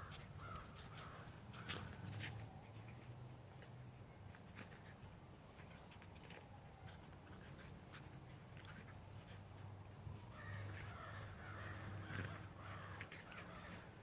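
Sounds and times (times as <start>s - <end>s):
soft ticks and scuffs: 0.0s - 14.0s.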